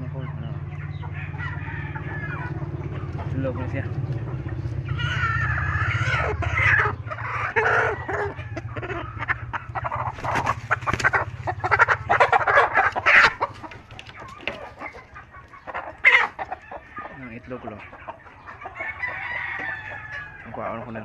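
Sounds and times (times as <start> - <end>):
chickens clucking and squawking: 0.0 - 21.0
steady low hum: 0.0 - 21.0.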